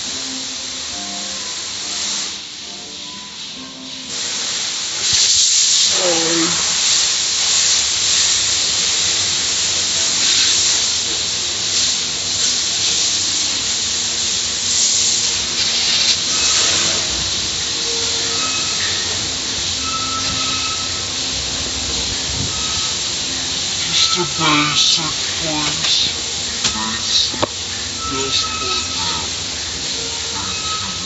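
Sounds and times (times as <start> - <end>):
car wash water spray hissing: 0.0 - 31.0.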